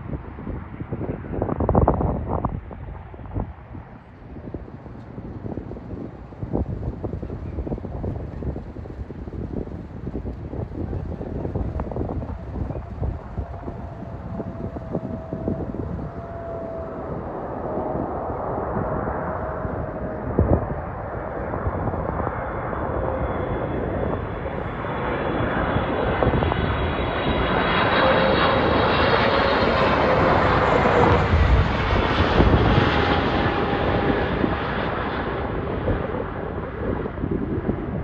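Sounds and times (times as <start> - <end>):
jet engines roaring and whining: 0.0 - 38.0.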